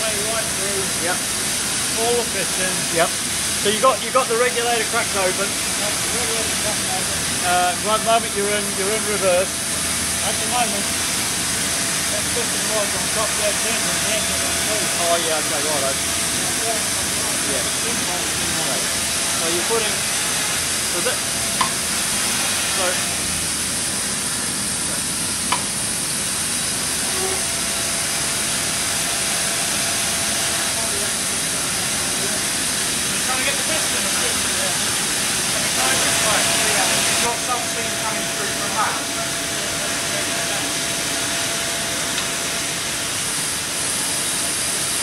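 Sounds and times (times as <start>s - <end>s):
steam hissing: 0.0s - 45.0s.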